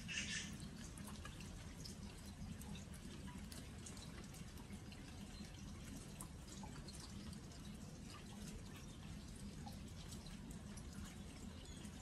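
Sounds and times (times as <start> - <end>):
rain dripping on jars: 0.0 - 12.0.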